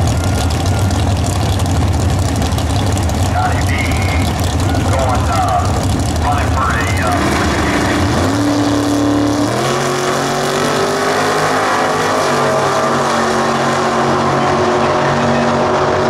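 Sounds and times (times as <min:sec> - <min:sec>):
drag racing car engines: 0:00.0 - 0:16.0.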